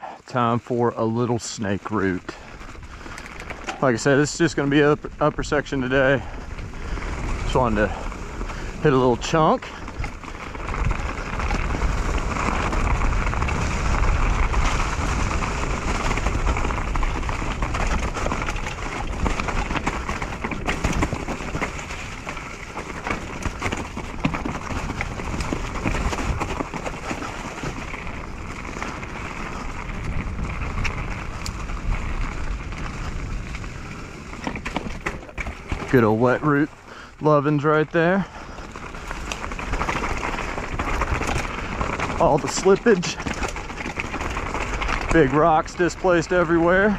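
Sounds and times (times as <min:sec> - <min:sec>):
bike tyres crunching over leaves: 0:00.0 - 0:46.9
bike knocks and rattles: 0:02.3 - 0:36.8, 0:37.4 - 0:46.9.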